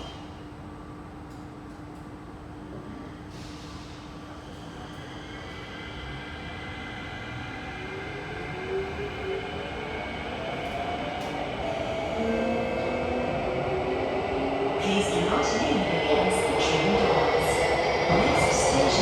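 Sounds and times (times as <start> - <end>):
metro train rumble: 0.0 - 19.0.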